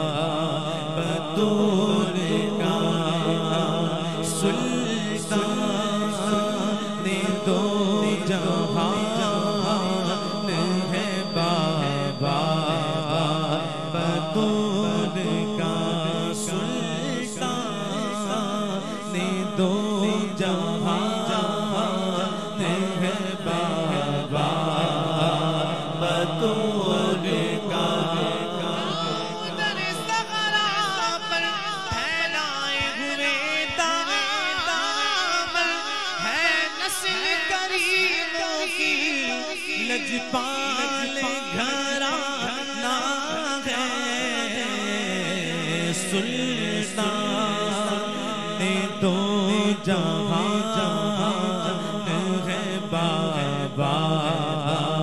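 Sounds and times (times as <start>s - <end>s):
man singing devotional song: 0.0s - 55.0s.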